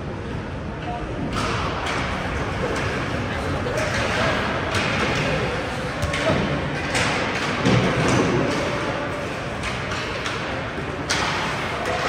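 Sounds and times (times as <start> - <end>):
arena background noise: 0.0 - 12.0
hockey sticks and puck clacking: 1.3 - 12.0.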